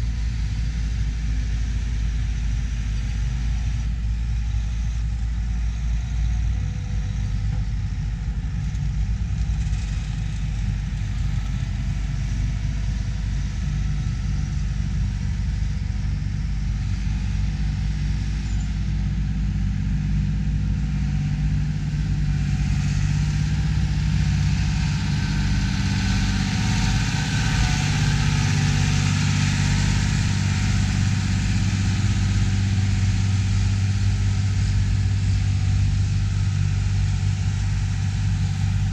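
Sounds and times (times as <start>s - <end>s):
diesel tractor engines running: 0.0s - 38.9s.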